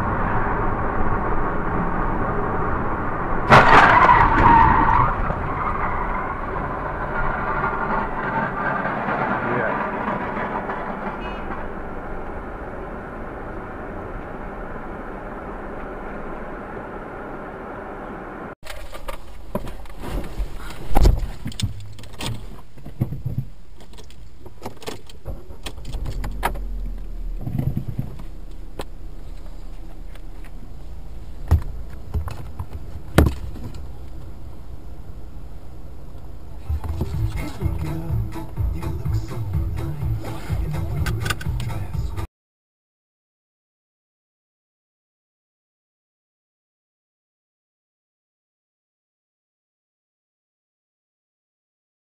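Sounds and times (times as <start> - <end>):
car cabin noise while driving: 0.0 - 42.3.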